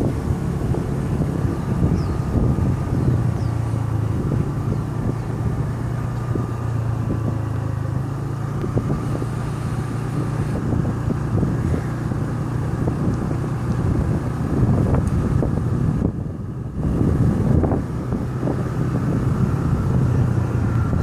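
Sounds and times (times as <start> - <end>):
motor engine running: 0.0 - 21.0
wind buffeting microphone: 0.0 - 21.0.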